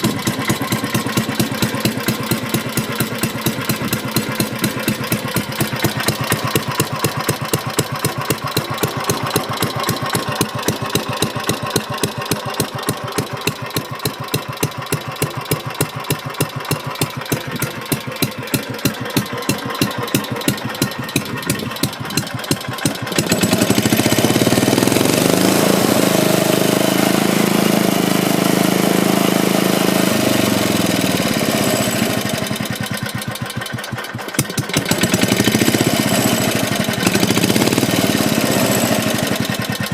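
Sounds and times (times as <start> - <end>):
single-cylinder engine running and revving: 0.0 - 39.9.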